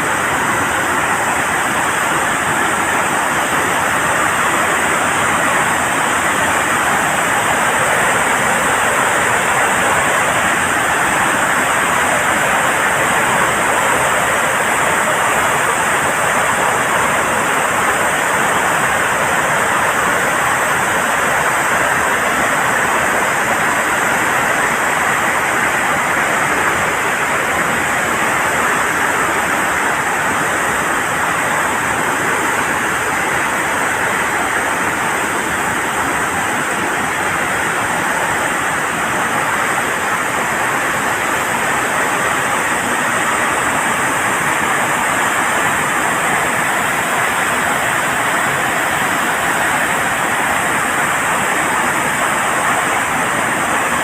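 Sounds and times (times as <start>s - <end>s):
water rushing through dam floodgates: 0.0s - 54.0s.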